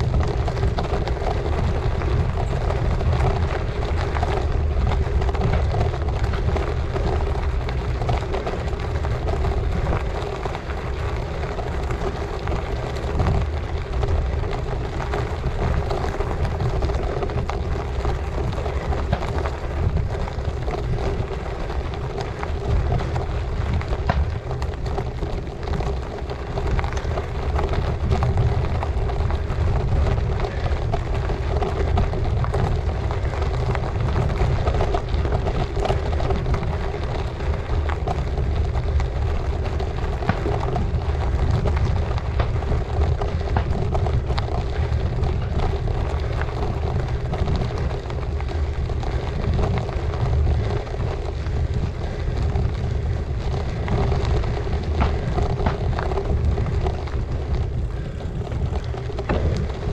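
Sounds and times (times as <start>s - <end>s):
bike tyres crunching over gravel: 0.0s - 59.9s
small stones ticking: 0.0s - 59.9s
wind rumbling on microphone: 0.0s - 59.9s.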